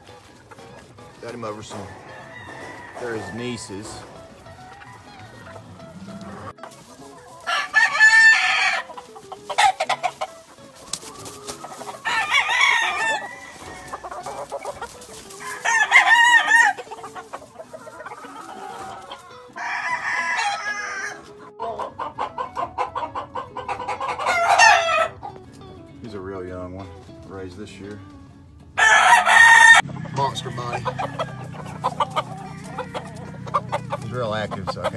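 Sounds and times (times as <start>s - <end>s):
roosters crowing: 0.0s - 25.4s, 28.7s - 34.9s
chicken clucking: 0.0s - 25.6s, 28.8s - 34.9s.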